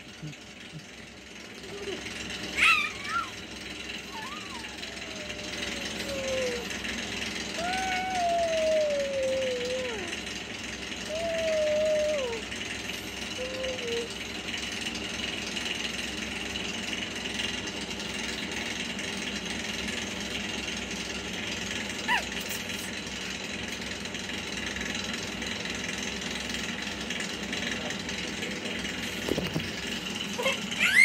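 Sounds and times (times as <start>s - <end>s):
small motor drone: 0.0s - 16.5s, 17.3s - 31.0s.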